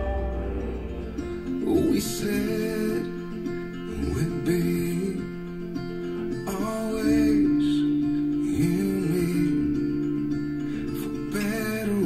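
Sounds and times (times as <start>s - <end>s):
guitar song over loudspeakers: 0.0s - 12.0s.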